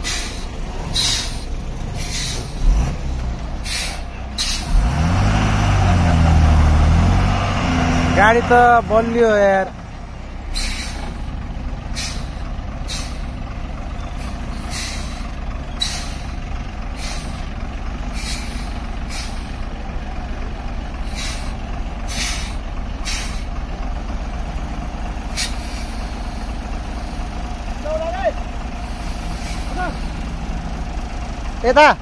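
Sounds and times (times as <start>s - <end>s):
truck engine rumble: 0.0s - 32.0s.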